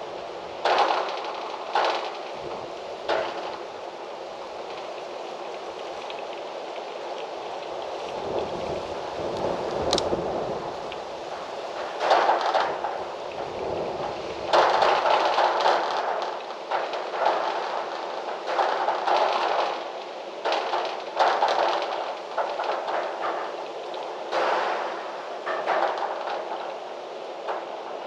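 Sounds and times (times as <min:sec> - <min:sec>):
wind rustling through trees: 0:00.0 - 0:28.0.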